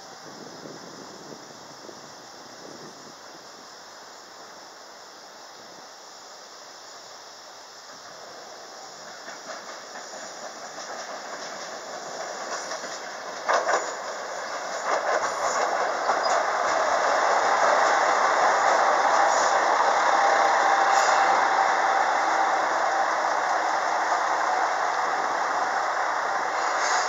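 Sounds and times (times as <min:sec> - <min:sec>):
train running past: 0:00.0 - 0:27.0.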